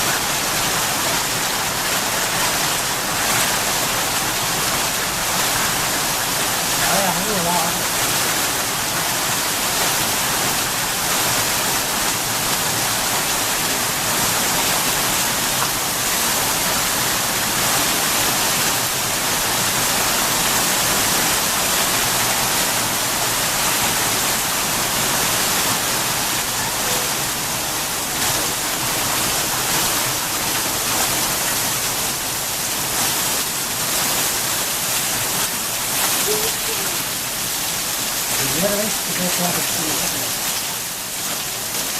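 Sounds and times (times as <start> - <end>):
hail and heavy rain falling: 0.0 - 41.9.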